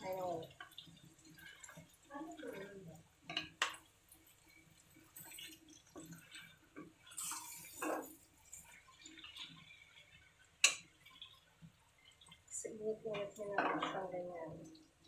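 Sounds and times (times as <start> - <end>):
utensil clinking and scraping in pan: 0.0 - 11.4, 12.0 - 14.6.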